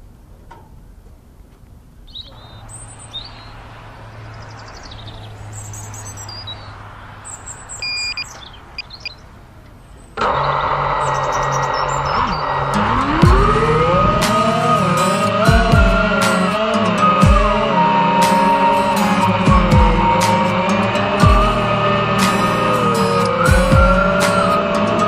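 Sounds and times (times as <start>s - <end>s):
birds chirping: 2.0s - 25.0s.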